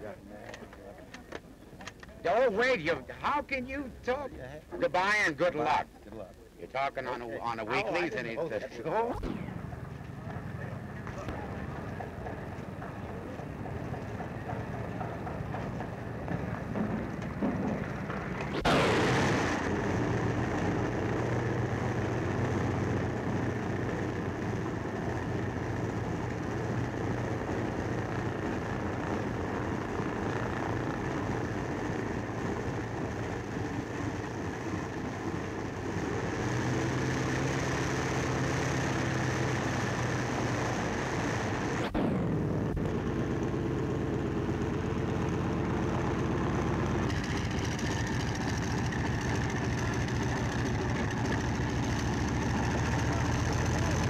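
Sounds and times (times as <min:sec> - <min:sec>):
propeller plane engine drone: 0:06.7 - 0:54.0.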